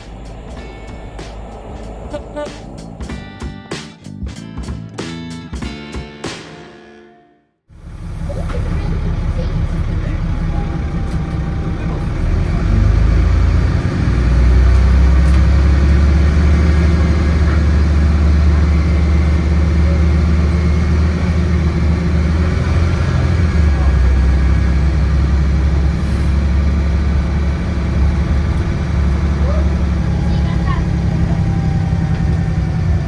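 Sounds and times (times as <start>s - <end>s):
bus diesel engine drone: 0.0s - 5.4s, 7.7s - 33.0s.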